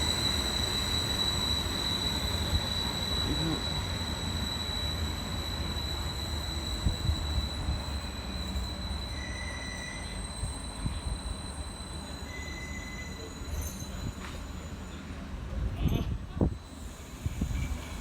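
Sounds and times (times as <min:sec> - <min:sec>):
high-pitched train whine: 0:00.0 - 0:15.8, 0:16.4 - 0:18.0
train wheels rumbling on rails: 0:00.0 - 0:18.0.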